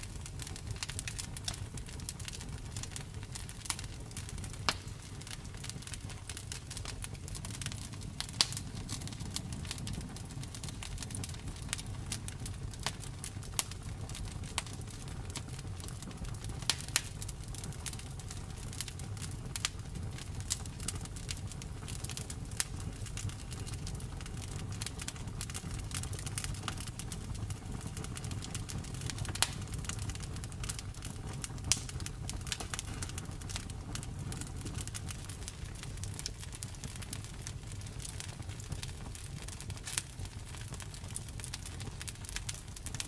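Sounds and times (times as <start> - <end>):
fire pops: 0.0 - 43.0
wood fire crackling: 0.0 - 43.0.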